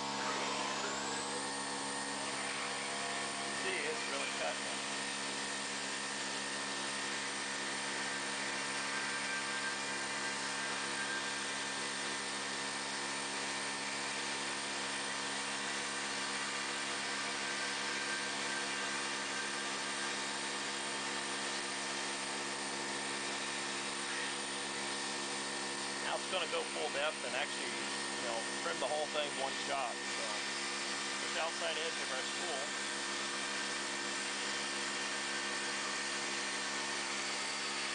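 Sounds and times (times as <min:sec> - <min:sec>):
dust vacuum running: 0:00.0 - 0:37.9
milling machine spindle running: 0:00.0 - 0:37.9.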